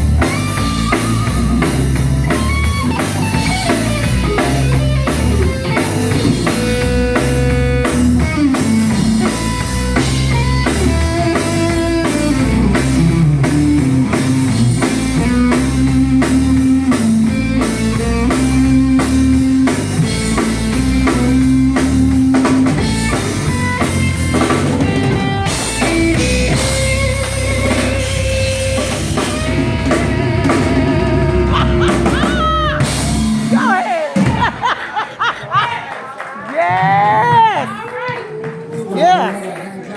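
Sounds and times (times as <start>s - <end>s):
guitar: 0.0s - 34.8s
drum kit steady beat: 0.0s - 35.6s
gospel band playing instrumental: 0.0s - 39.9s.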